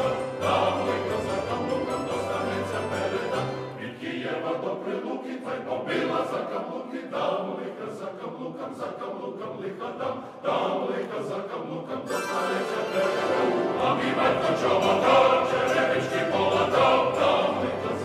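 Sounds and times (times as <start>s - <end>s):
male choir singing in harmony: 0.0s - 18.0s.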